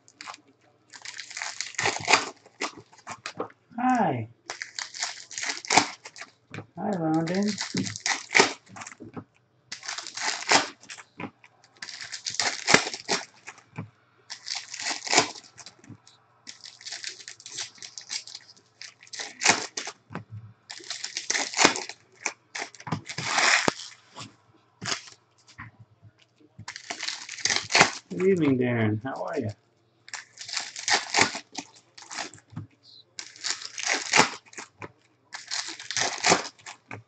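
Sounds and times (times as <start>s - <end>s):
plastic wrappers crinkling and tearing: 0.0s - 3.5s, 4.4s - 13.7s, 14.3s - 15.9s, 16.5s - 25.7s, 26.6s - 28.5s, 29.2s - 37.0s.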